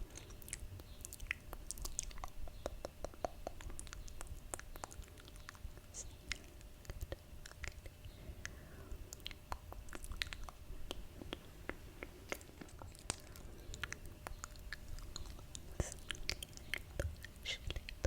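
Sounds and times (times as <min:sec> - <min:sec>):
mouth clicks and pops: 0:00.2 - 0:18.0.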